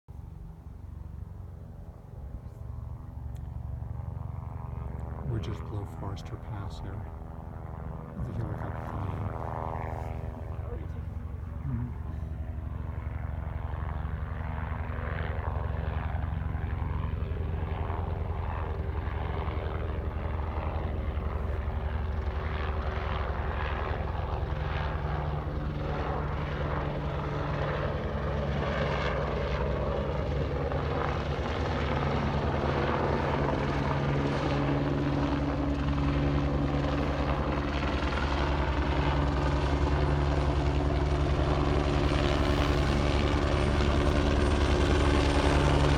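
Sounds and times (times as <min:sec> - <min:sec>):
helicopter rotor chop and engine: 0:00.1 - 0:45.9.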